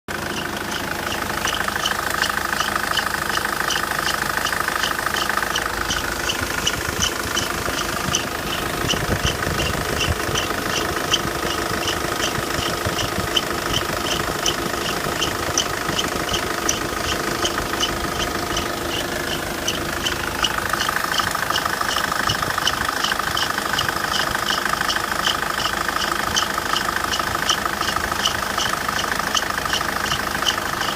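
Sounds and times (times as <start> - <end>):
car engine idling: 0.1 - 30.9
regular ticking: 0.1 - 30.9.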